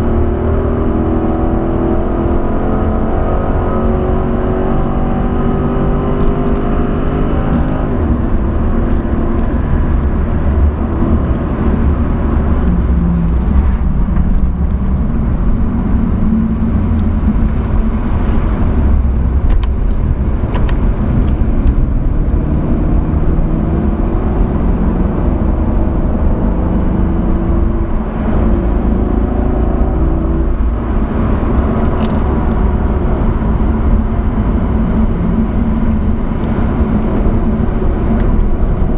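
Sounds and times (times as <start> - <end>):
car engine from inside cabin: 0.0 - 38.9
low road rumble: 0.0 - 38.9.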